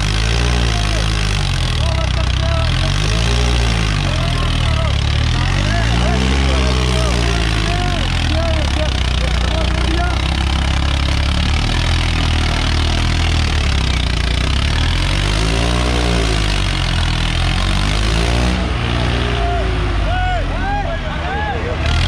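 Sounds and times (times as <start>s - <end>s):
tractor diesel engine revving: 0.0s - 22.0s.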